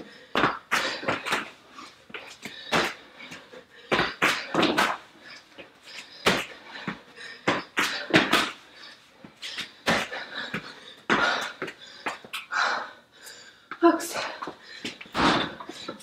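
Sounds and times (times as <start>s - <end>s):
person panting: 0.0s - 16.0s.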